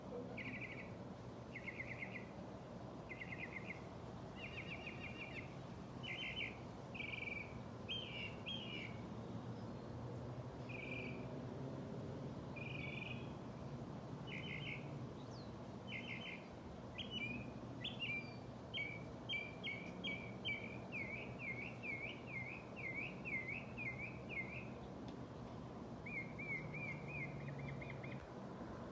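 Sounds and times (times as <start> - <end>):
songbird singing trills: 0.2 - 2.4, 3.0 - 11.3, 12.5 - 25.0, 26.0 - 28.3.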